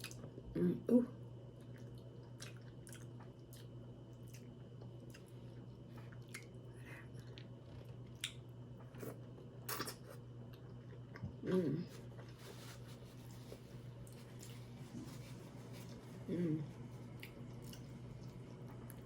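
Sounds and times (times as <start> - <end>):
person chewing food: 1.6 - 19.0.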